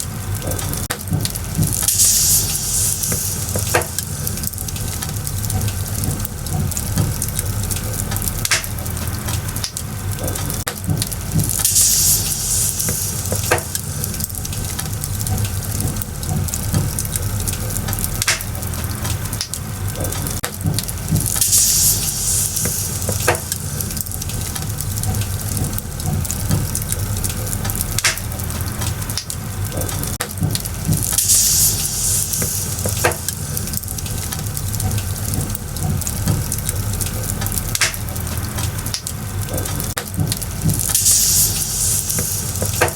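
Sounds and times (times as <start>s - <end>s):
bonfire crackling and popping: 0.0s - 42.9s
fire hissing: 0.0s - 42.9s
low steady rumble: 0.0s - 42.9s.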